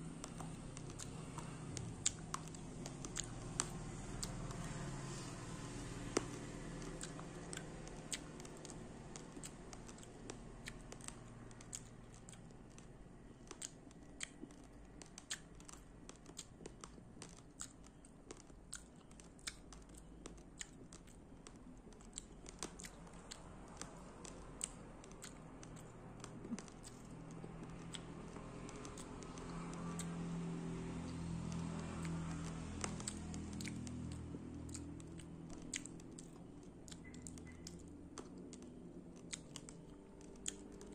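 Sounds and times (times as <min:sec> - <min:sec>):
rice grains being chewed: 0:00.0 - 0:40.9.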